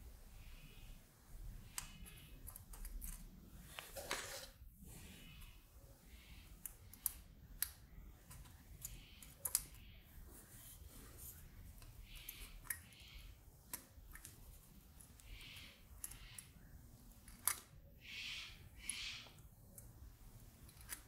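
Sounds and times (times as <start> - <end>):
soft rustling of circuit board: 0.0 - 17.8
faint clicks and ticks: 1.5 - 4.0, 5.3 - 10.1, 11.2 - 21.0.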